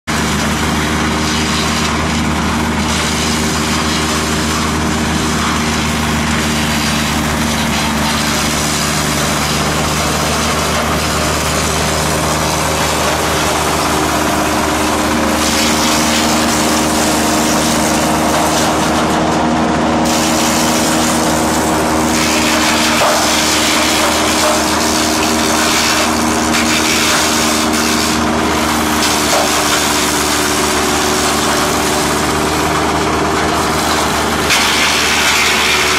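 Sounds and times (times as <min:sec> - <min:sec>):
diesel engine humming: 0:00.0 - 0:35.9
branches being shredded: 0:00.1 - 0:35.9.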